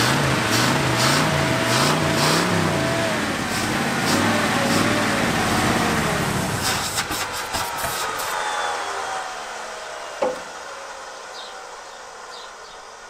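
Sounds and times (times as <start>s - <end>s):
rough-running engine revving: 0.0s - 13.0s.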